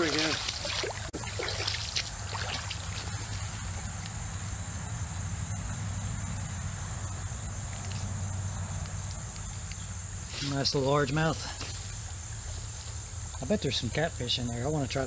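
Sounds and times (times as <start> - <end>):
creek water running: 0.0 - 5.2, 6.0 - 15.0.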